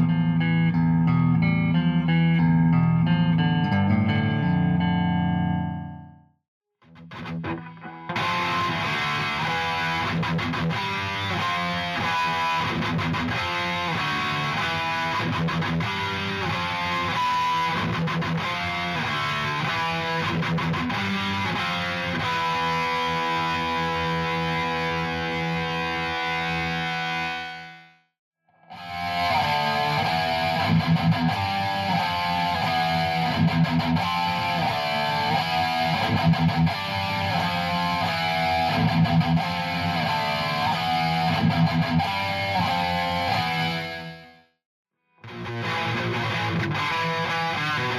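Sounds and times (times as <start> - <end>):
distorted electric guitar riffing: 0.0 - 6.0, 6.9 - 27.8, 28.7 - 44.3, 45.2 - 47.9.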